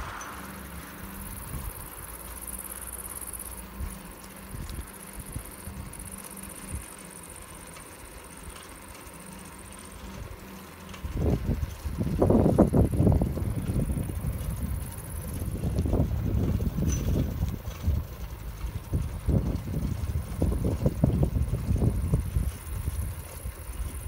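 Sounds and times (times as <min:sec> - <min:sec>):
bicycle bumps: 0:00.0 - 0:24.0
wind and rolling rumble: 0:00.0 - 0:24.0.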